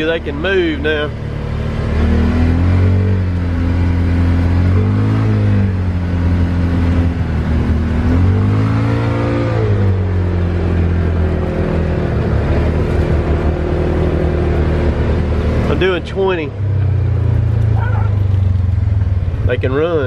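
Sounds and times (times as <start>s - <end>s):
side-by-side engine: 0.0s - 20.0s.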